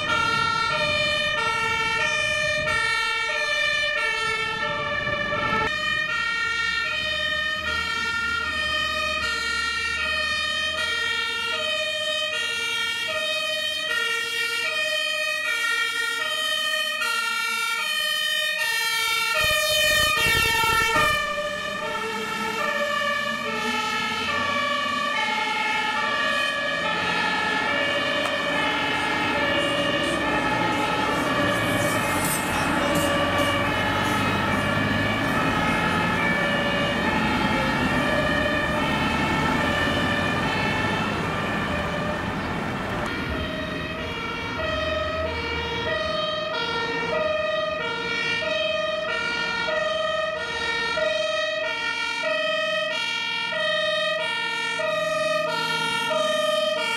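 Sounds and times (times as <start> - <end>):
truck engine and traffic noise: 0.0 - 56.9
two-tone sirens: 0.0 - 56.9.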